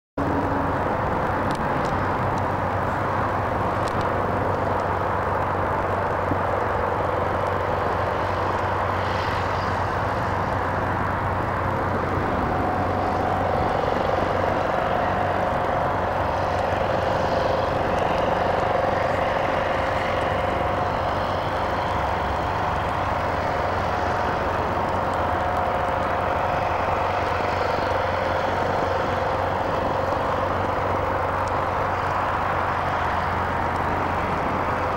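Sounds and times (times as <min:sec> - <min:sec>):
blimp engines droning: 0:00.2 - 0:34.9.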